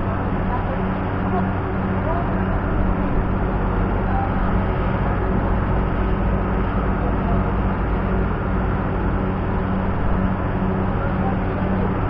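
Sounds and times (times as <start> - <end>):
loud mechanical engine drone: 0.0 - 12.0.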